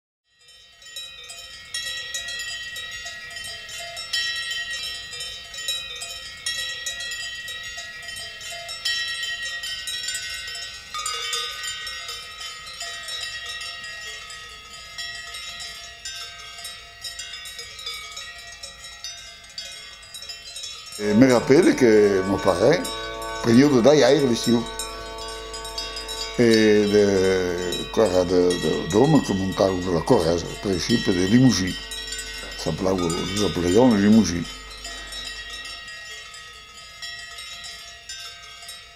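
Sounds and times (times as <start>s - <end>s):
cowbells clanging: 0.9s - 38.9s.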